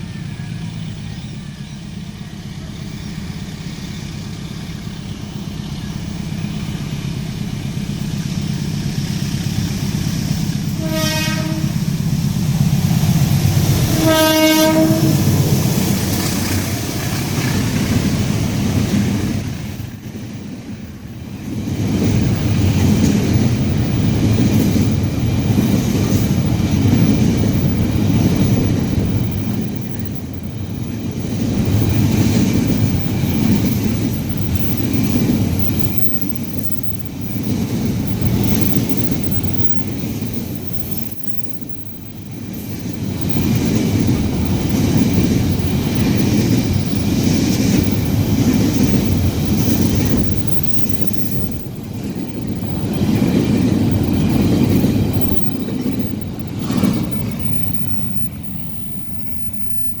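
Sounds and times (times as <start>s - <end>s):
train wheel-on-rail rumble: 0.0s - 60.0s.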